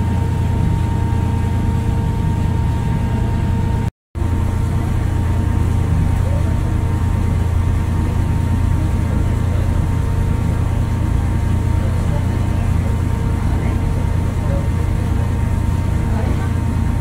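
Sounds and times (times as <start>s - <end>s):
ferry diesel engines rumbling: 0.0s - 17.0s.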